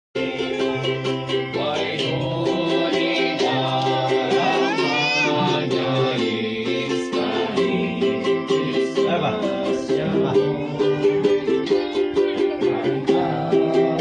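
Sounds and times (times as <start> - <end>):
person singing: 0.2 - 14.0
strummed ukulele-like instrument: 0.2 - 14.0.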